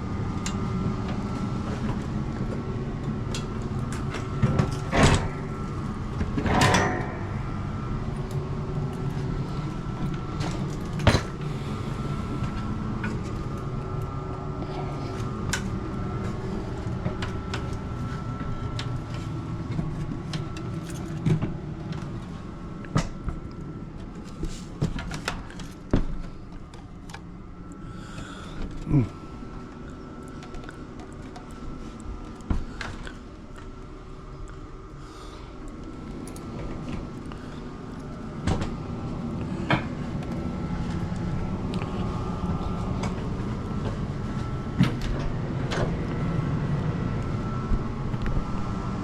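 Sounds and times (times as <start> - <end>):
mechanical hum: 0.0 - 49.0.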